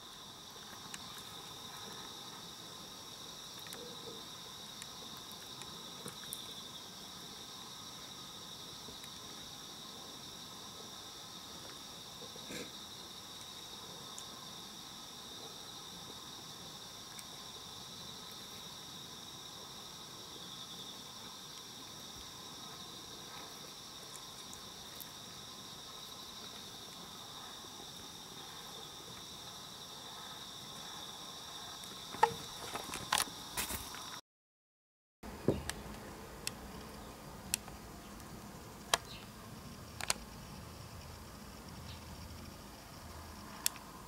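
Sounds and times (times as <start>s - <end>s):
crickets trilling: 0.0s - 34.2s, 35.2s - 44.0s.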